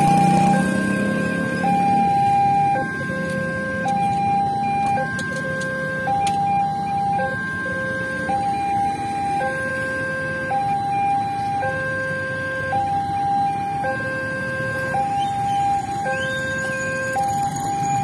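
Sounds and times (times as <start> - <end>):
engines rumbling: 0.0 - 18.0
two-tone level crossing alarm: 0.0 - 18.0.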